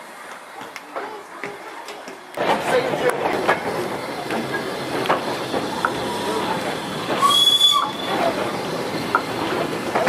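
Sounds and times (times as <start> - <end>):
railway carriage rumbling on track: 0.0 - 10.0.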